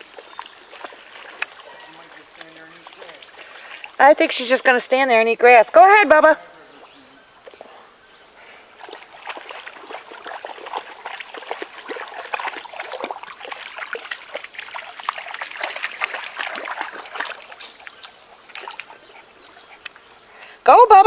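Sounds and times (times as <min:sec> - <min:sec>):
river water splashing: 0:00.0 - 0:21.0.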